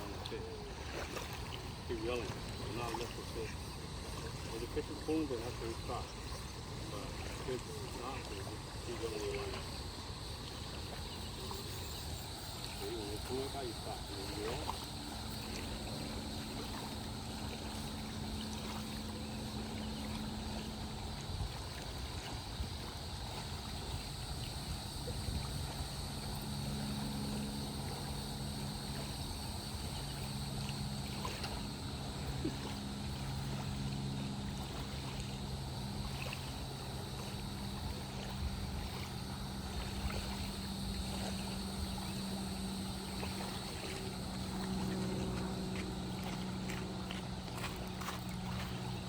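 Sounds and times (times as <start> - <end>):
low droning hum: 0.0 - 49.0
rushing water: 0.0 - 49.0.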